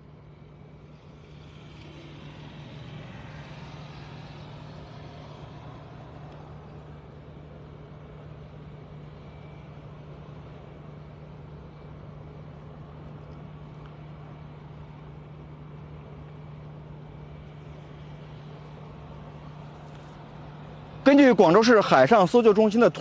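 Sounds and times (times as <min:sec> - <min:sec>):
vehicle engine running: 0:00.0 - 0:22.0
outdoor noise: 0:00.0 - 0:23.0.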